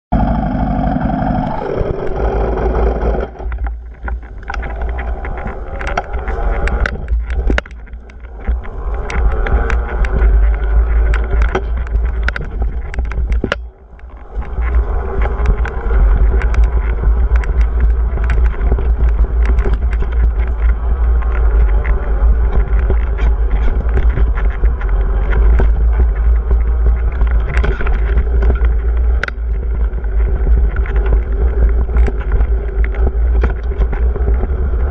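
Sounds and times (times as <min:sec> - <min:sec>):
dirt bike engine running: 0:00.1 - 0:34.9
wind buffeting microphone: 0:00.1 - 0:34.9
knocks and rattles from bike: 0:00.2 - 0:34.9.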